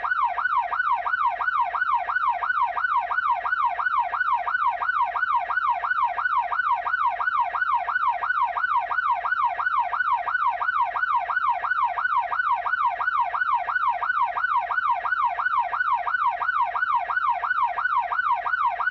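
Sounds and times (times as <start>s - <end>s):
police siren yelping: 0.0s - 18.9s.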